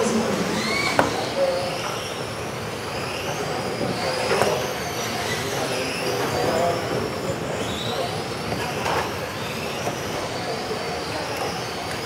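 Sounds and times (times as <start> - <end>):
electric rc cars whining: 0.0 - 12.0.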